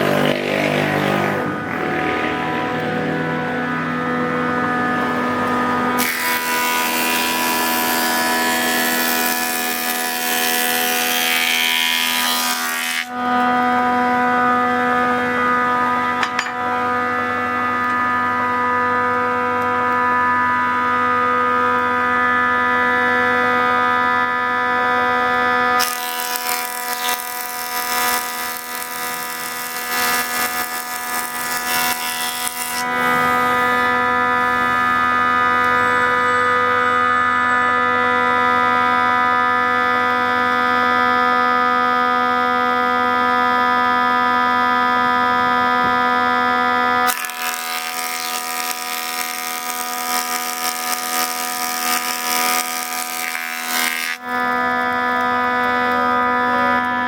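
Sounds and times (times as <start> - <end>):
planer cutting boards: 0.0 - 57.0
wood planer hum: 0.0 - 57.0.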